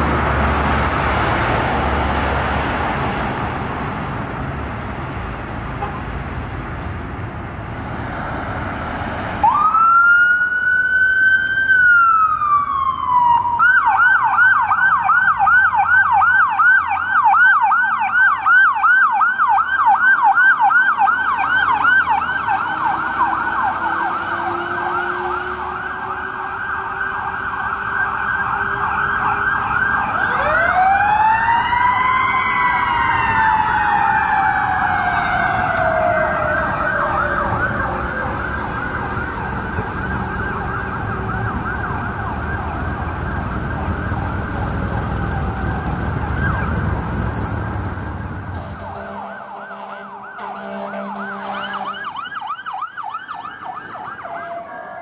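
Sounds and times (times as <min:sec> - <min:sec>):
truck engine rumble: 0:00.0 - 0:16.6, 0:20.7 - 0:55.0
electronic siren yelp: 0:09.4 - 0:44.5, 0:45.2 - 0:47.0, 0:47.7 - 0:55.0.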